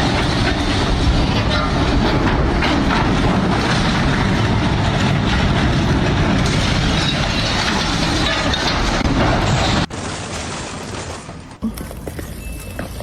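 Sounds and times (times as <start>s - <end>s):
heavy vehicle engine rumbling: 0.0s - 11.7s.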